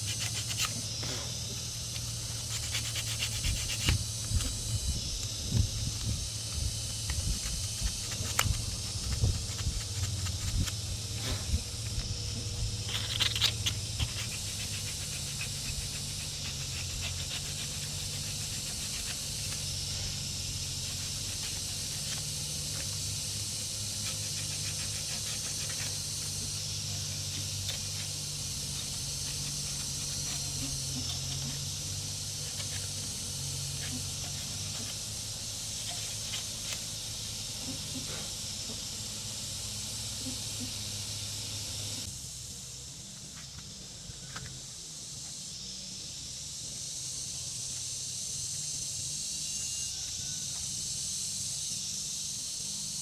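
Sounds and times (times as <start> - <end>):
low machine hum: 0.0 - 52.8
high hiss: 0.0 - 53.0.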